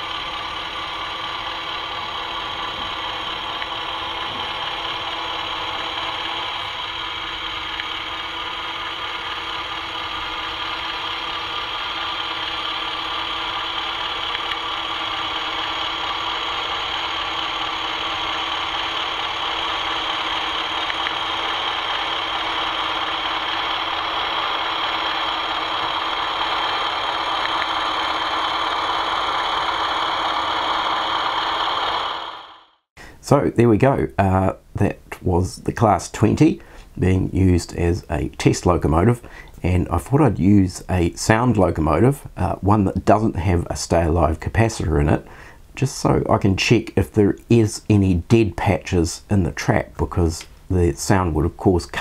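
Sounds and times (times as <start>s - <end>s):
model locomotive diesel engine sound: 0.0s - 52.0s.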